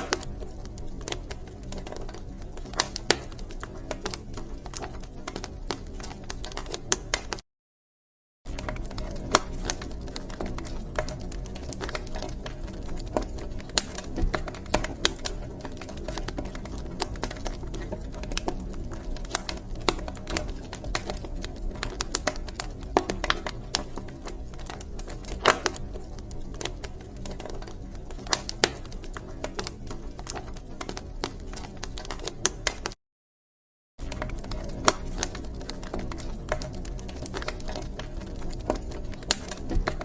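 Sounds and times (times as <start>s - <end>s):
wood fire crackling: 0.0s - 7.4s, 8.5s - 33.0s, 34.0s - 40.0s.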